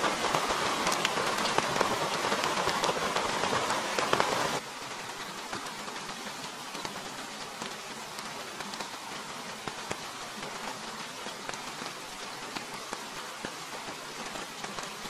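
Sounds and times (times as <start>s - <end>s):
rain hiss on tarp and leaves: 0.0s - 15.0s
sharp ticks of raindrops: 0.0s - 15.0s.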